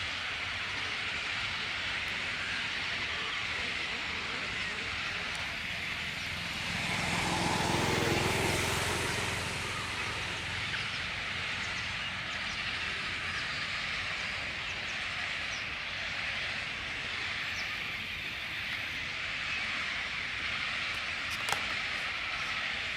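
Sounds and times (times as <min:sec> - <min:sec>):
steady outdoor hiss: 0:00.0 - 0:22.9.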